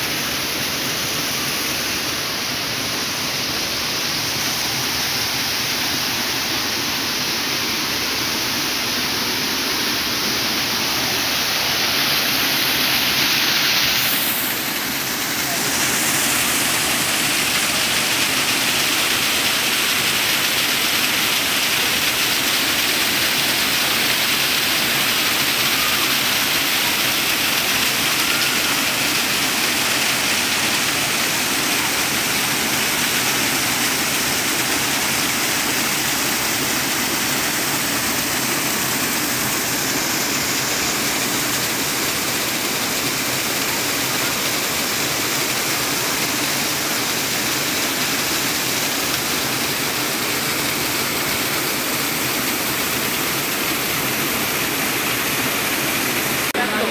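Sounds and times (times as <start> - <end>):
waterfalls rushing: 0.0 - 56.9.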